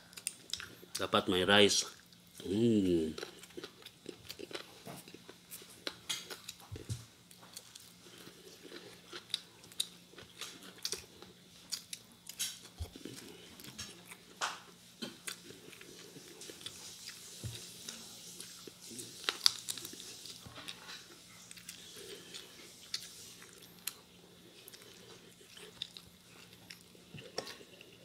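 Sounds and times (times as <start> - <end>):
person chewing chicken: 3.2 - 28.0.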